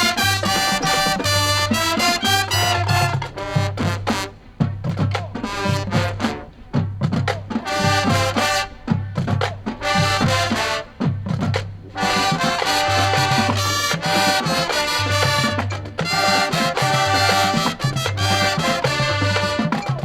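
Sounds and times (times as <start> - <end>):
marching band brass playing: 0.0 - 20.0.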